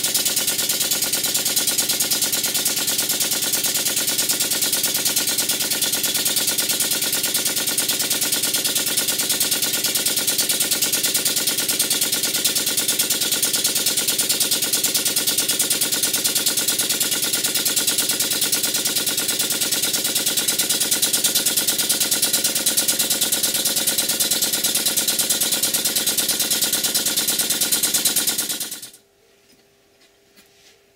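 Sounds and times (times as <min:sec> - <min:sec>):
model engine clattering: 0:00.0 - 0:29.0.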